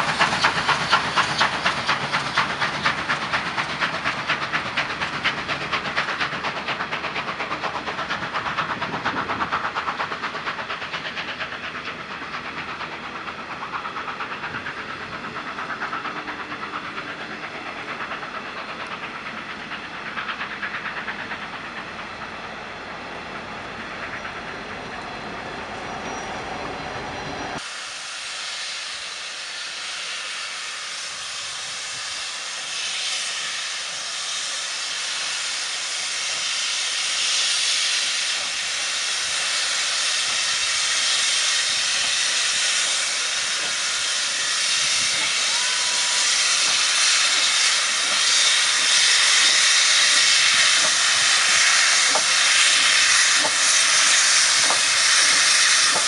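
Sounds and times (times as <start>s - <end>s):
steam locomotive hissing steam: 0.0s - 56.0s
train coaches rolling past: 0.0s - 56.0s.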